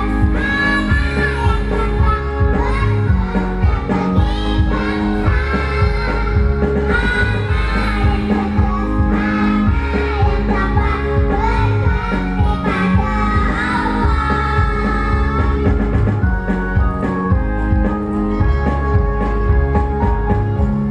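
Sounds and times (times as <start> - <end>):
backing music with steady beat: 0.0 - 20.9.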